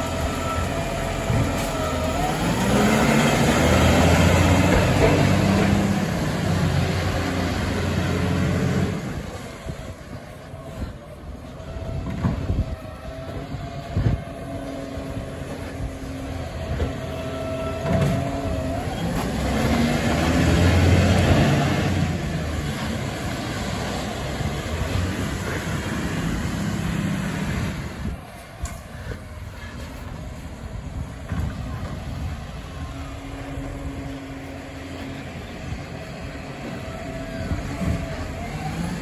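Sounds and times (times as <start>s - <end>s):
diesel engine revving: 0.0s - 39.0s.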